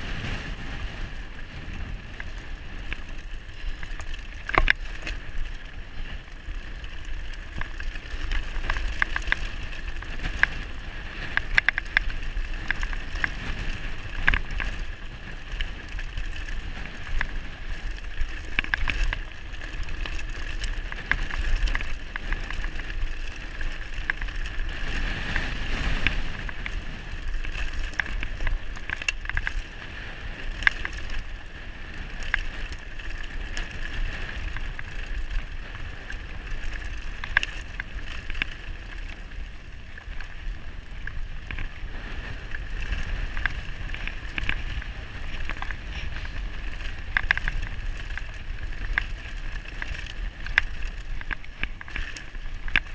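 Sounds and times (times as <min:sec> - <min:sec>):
bike rattling and knocking: 0:00.0 - 0:52.9
wind rumble on microphone: 0:00.0 - 0:52.9
tyres crunching over gravel: 0:01.1 - 0:52.9.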